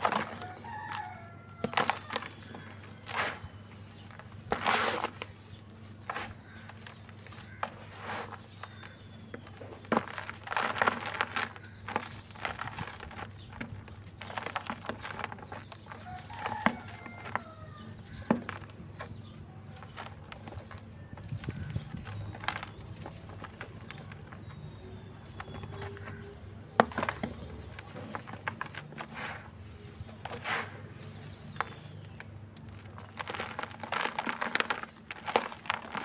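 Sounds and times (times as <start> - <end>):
dirt clods crunching in hands: 0.0 - 36.0.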